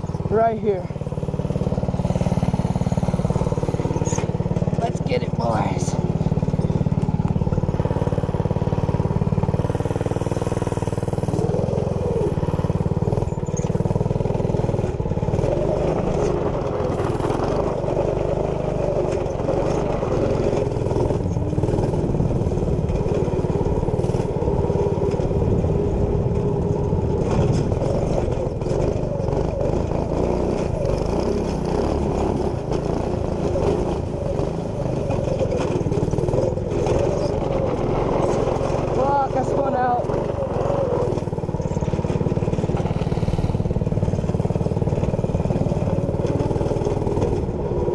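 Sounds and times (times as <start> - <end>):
minibike engine revving: 0.0 - 47.9.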